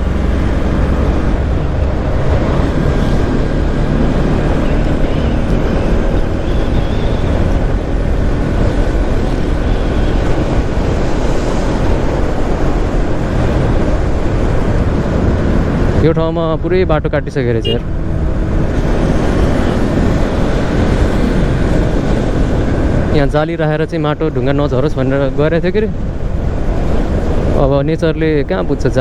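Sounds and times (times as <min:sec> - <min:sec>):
motorcycle engine hum: 0:00.0 - 0:29.0
wind rush on microphone: 0:00.0 - 0:29.0.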